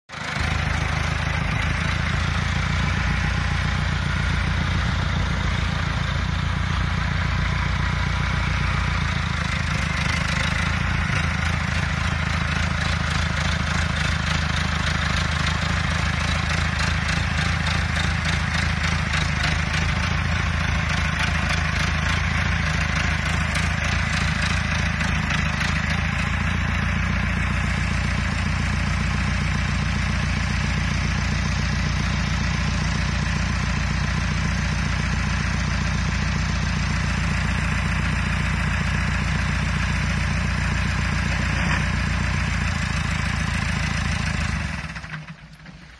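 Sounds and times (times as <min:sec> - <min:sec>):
diesel tractor engine idling: 0:00.1 - 0:45.9.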